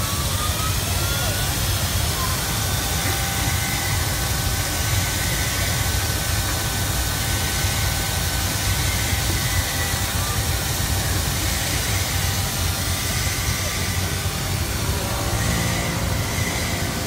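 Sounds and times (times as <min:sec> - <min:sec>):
faint high whine: 0:00.0 - 0:17.0
machine low hum: 0:00.0 - 0:17.0.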